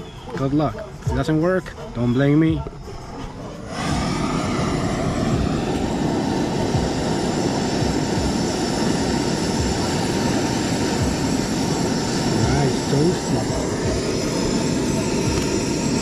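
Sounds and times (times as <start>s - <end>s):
torch flame hissing: 2.6s - 16.0s.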